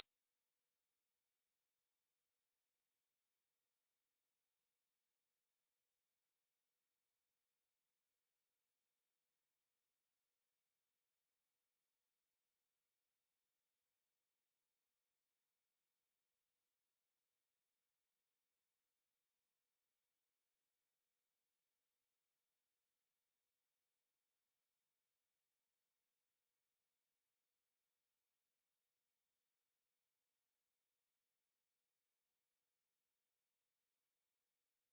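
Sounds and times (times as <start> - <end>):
high-pitched sine test tone: 0.0 - 34.9.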